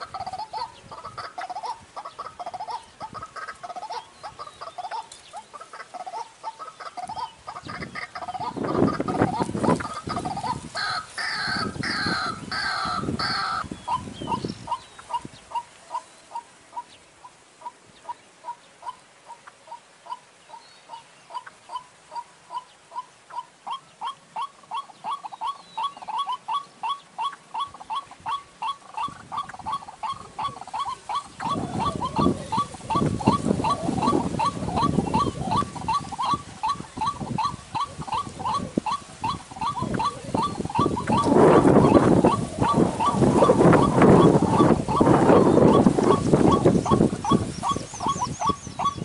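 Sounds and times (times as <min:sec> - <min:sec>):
harsh croaking bird calls: 0:00.0 - 0:49.0.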